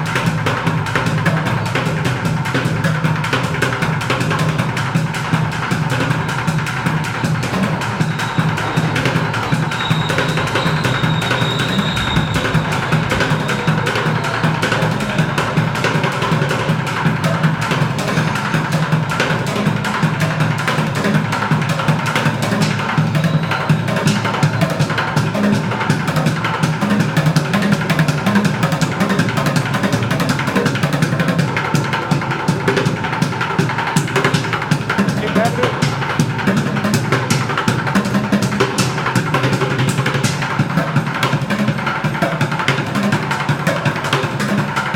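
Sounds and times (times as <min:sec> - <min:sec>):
drumming on plastic buckets: 0:00.0 - 0:44.9.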